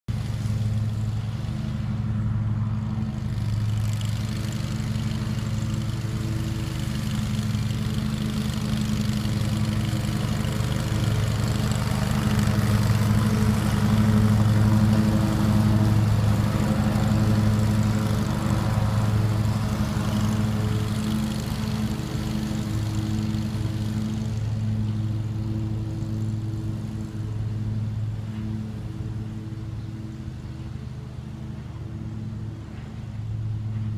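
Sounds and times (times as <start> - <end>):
riding lawn mower engine: 0.1 - 33.9.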